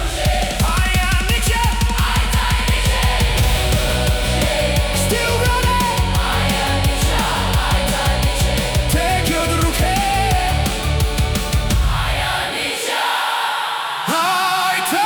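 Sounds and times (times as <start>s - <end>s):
song with heavy bass beat: 0.0s - 12.7s.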